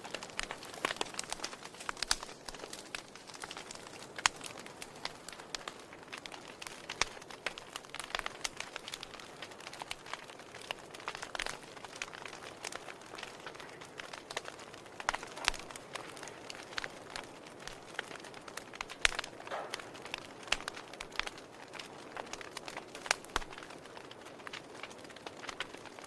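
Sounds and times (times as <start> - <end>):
firewood popping: 0.0 - 26.0
soft steady fire hiss: 0.0 - 26.0
wood fire crackling: 0.0 - 26.0.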